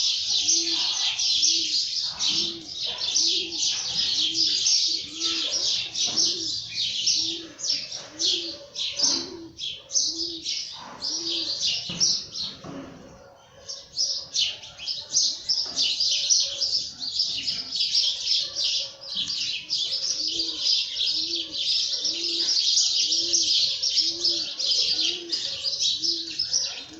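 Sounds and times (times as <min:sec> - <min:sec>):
dove cooing: 0:00.0 - 0:26.9
small birds chirping: 0:00.0 - 0:26.9.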